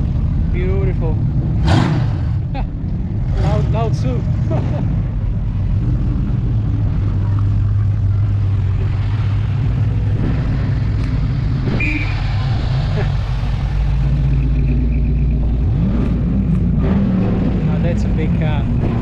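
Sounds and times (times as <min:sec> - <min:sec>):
car engine rumbling past: 0:00.0 - 0:19.0.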